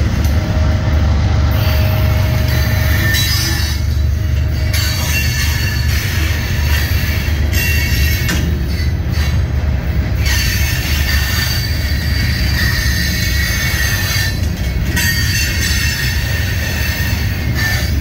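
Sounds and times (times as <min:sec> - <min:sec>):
train wheels rumbling on rail: 0:00.0 - 0:18.0
high wheel squeal: 0:01.5 - 0:09.5, 0:10.2 - 0:18.0.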